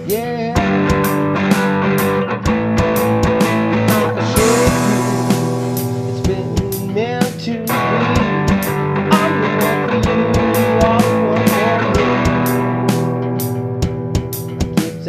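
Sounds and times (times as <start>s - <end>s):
guitar with bending notes: 0.0s - 15.0s
steady beat: 0.0s - 15.0s.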